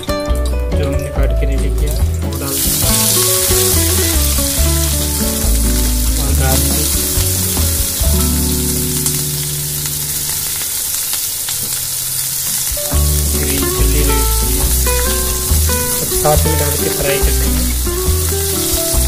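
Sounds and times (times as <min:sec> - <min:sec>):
background music: 0:00.0 - 0:19.0
onions sizzling in hot oil: 0:02.4 - 0:19.0.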